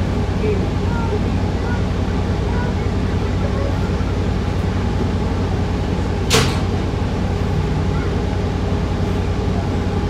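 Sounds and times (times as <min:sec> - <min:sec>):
bus engine drone inside cabin: 0:00.0 - 0:10.0.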